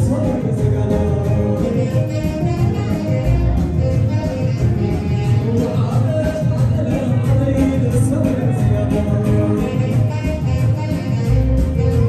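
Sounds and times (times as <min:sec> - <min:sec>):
dance music over loudspeakers: 0:00.0 - 0:12.0.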